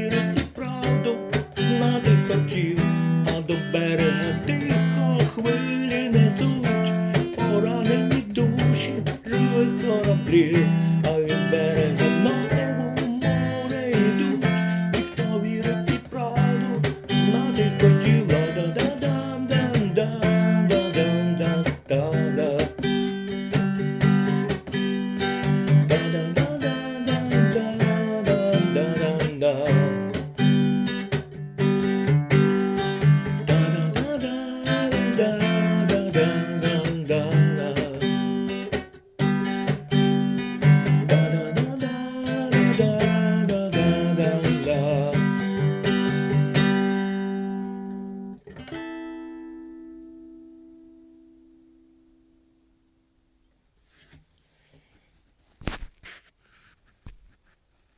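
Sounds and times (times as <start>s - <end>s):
acoustic guitar strumming chords: 0.0s - 53.0s.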